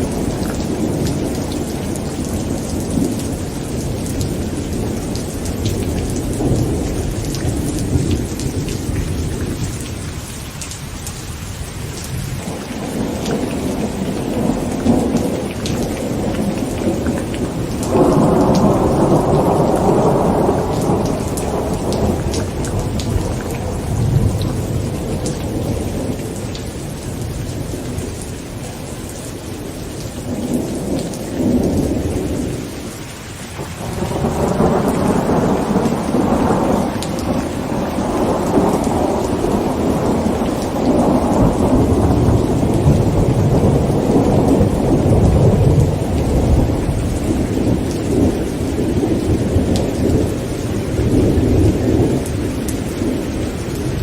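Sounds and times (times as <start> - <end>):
rolling thunder: 0.0 - 10.2, 12.0 - 28.9, 33.6 - 54.0
heavy rain on a tent: 0.0 - 54.0.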